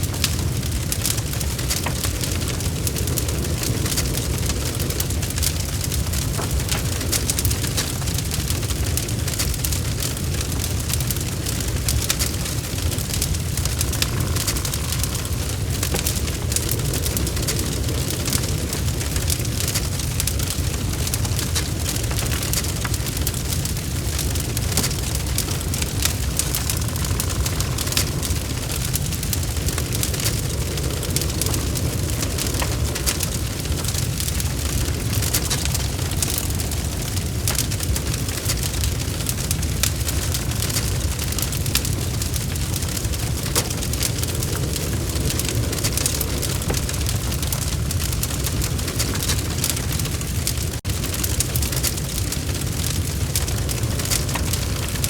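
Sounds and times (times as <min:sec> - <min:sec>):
logs crackling and popping: 0:00.0 - 0:55.0
low rumble of flames: 0:00.0 - 0:55.0.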